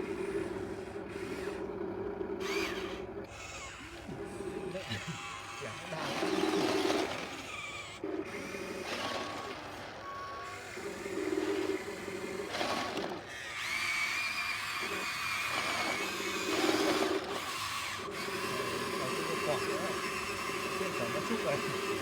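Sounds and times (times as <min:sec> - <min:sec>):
small electric motors whining: 0:00.0 - 0:22.0.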